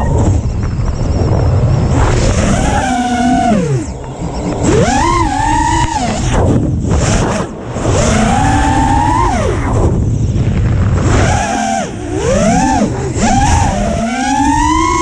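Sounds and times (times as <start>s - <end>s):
drone motors whining: 0.0s - 15.0s
wind rush on microphone: 0.0s - 15.0s.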